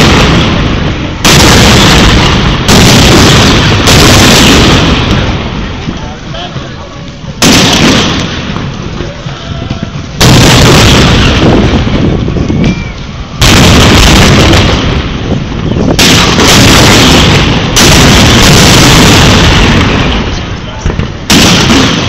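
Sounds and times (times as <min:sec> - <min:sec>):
cannon bangs: 0:00.0 - 0:05.9, 0:07.4 - 0:09.0, 0:10.2 - 0:12.2, 0:13.4 - 0:22.0.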